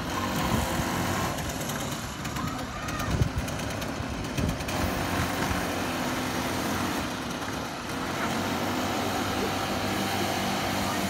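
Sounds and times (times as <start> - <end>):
go-kart engines running: 0.0 - 11.0.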